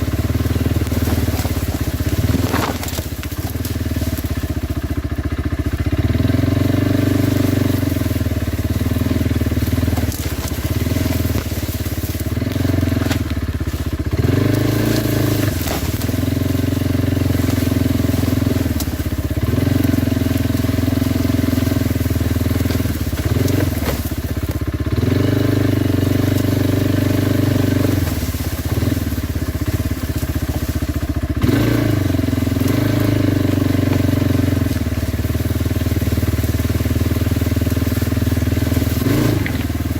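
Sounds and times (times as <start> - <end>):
atv engine running: 0.0 - 39.9
tyres crunching over loose stone: 0.0 - 39.9.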